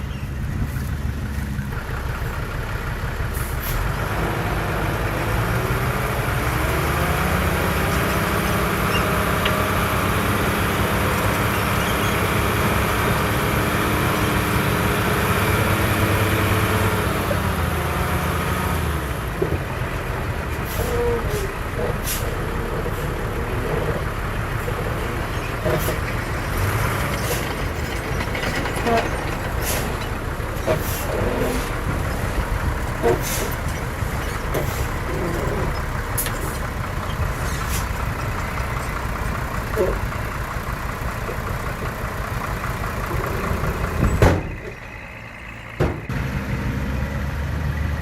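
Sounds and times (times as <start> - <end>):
heavy machine diesel engine: 0.0 - 48.0.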